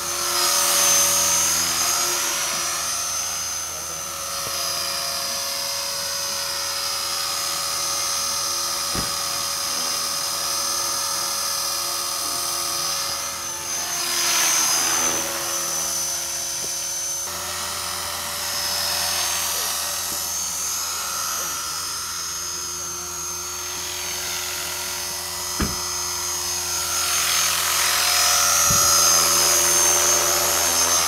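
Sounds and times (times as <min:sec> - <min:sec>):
rc helicopter motor whine: 0:00.0 - 0:31.0
rotor whirring: 0:00.0 - 0:31.0.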